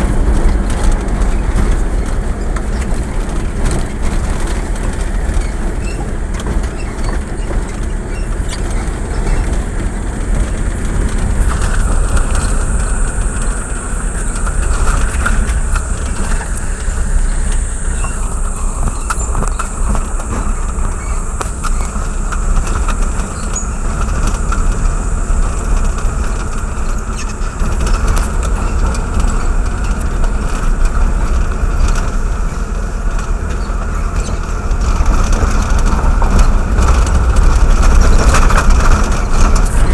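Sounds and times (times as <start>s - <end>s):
road rumble: 0.0s - 39.9s
vehicle engine: 0.0s - 39.9s.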